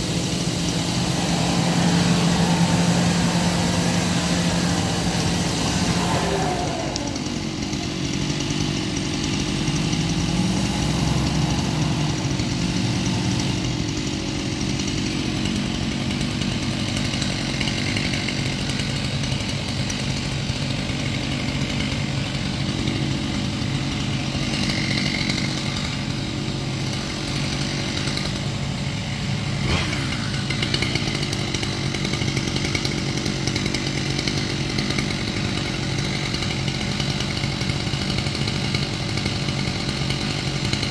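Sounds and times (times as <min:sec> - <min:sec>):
chainsaw engine running: 0:00.0 - 0:40.9.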